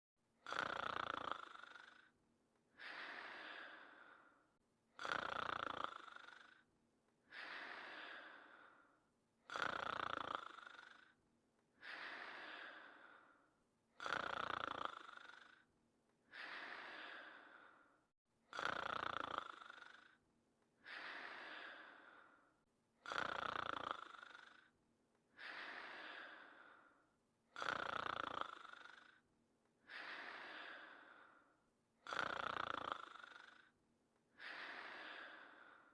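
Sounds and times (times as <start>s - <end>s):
person snoring: 0.4s - 20.2s, 20.8s - 35.9s.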